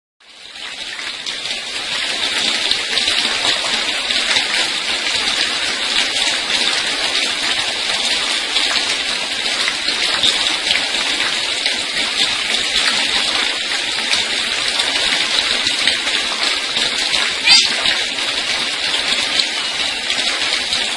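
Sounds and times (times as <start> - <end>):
water spraying on a cage: 1.2 - 20.9.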